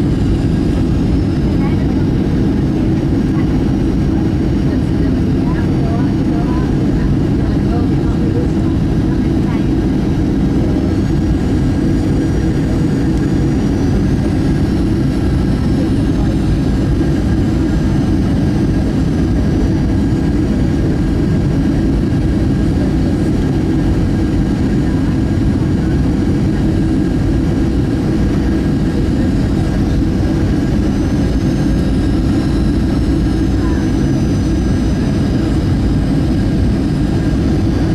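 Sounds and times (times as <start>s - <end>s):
jet engine and airflow rumble: 0.0s - 37.9s.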